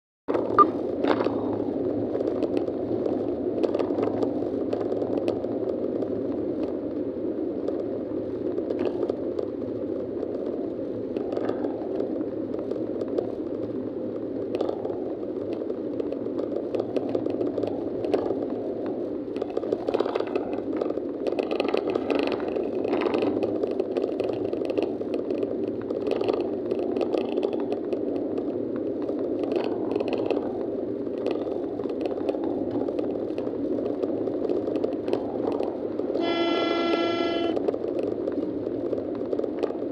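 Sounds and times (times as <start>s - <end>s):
small clicks and rattles: 0.3s - 7.0s, 7.6s - 39.9s.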